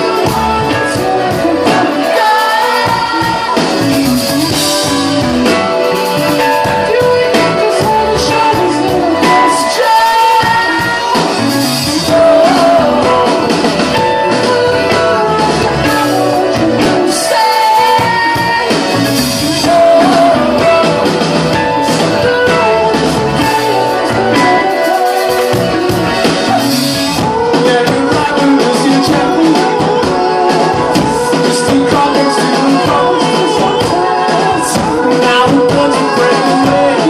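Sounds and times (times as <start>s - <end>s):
person singing lead vocal: 0.0s - 37.0s
rock band playing live: 0.0s - 37.0s.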